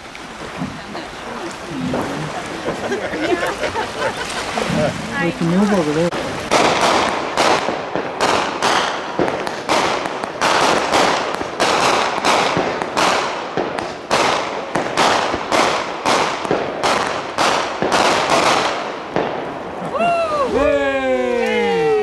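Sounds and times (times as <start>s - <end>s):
fireworks banging: 0.0s - 20.0s.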